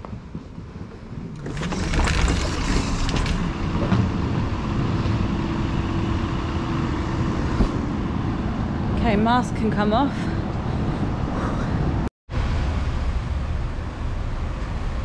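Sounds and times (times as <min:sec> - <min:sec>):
outdoor traffic noise: 0:00.0 - 0:15.0
steady engine hum: 0:02.8 - 0:15.0.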